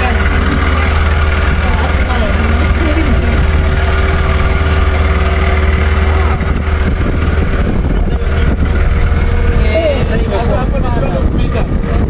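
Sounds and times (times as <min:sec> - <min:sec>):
motorboat engine droning: 0:00.0 - 0:12.0
wind and water rushing: 0:00.0 - 0:12.0.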